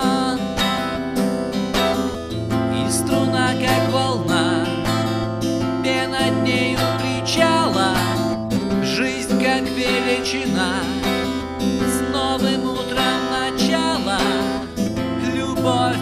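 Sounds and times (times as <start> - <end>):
person singing: 0.0 - 1.1, 2.4 - 16.0
strummed acoustic guitar: 0.0 - 16.0.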